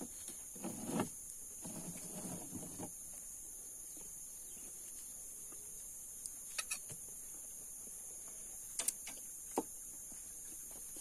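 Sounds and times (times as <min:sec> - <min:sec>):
insect hiss: 0:00.0 - 0:11.0.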